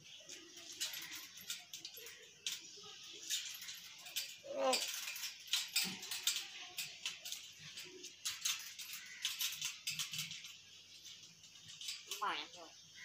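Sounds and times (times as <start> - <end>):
birds clicking and rattling: 0.0 - 13.0.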